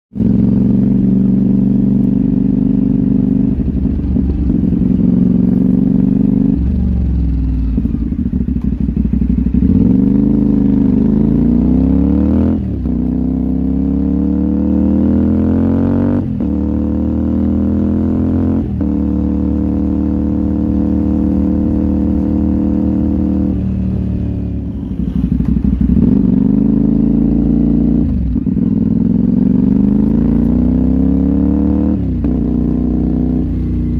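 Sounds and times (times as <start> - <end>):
motorcycle engine accelerating and shifting: 0.1 - 33.9.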